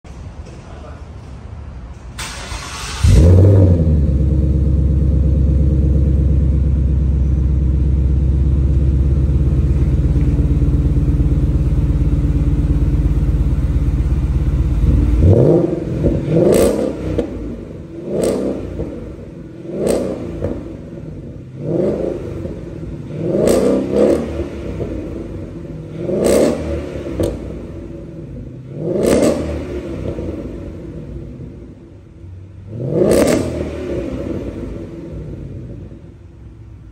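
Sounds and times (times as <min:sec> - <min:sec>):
car engine starting and revving: 0:02.1 - 0:36.9.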